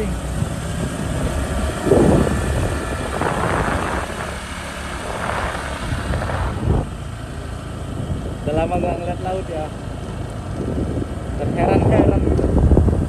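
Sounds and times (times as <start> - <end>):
wind buffeting microphone: 0.0 - 9.1, 10.1 - 13.0
motorcycle engine rumble: 0.0 - 13.0.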